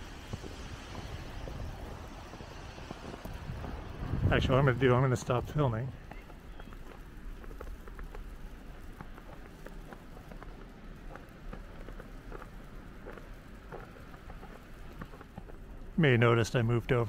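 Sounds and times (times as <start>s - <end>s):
low background noise: 0.0s - 17.0s
wet snow pattering on umbrella: 0.0s - 17.0s.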